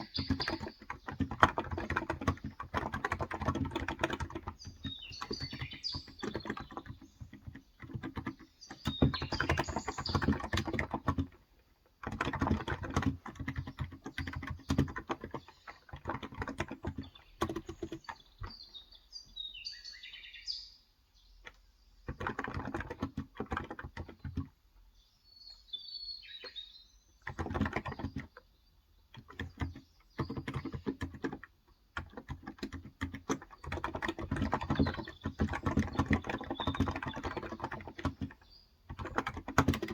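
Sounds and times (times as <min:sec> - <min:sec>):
keyboard typing: 0:00.0 - 0:11.4, 0:12.0 - 0:18.6, 0:22.1 - 0:24.5, 0:27.2 - 0:28.4, 0:29.1 - 0:39.9
birds chirping: 0:00.0 - 0:39.9.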